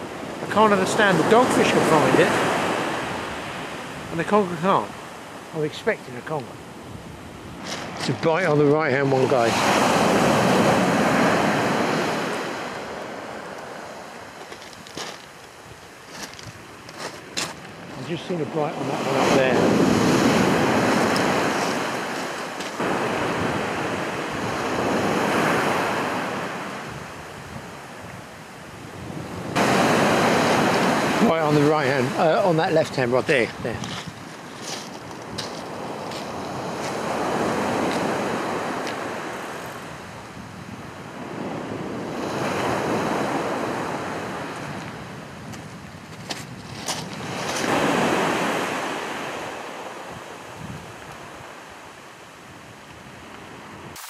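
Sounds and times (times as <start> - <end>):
sea waves breaking on beach: 0.0 - 54.0
wind on microphone: 6.4 - 54.0.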